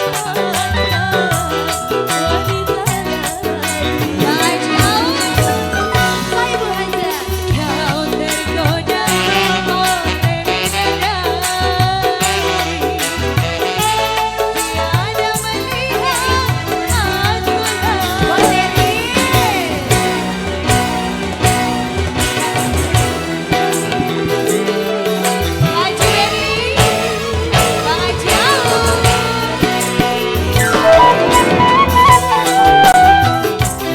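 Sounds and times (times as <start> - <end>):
band music with drum beat: 0.0 - 33.9
ornamented singing: 0.0 - 33.9.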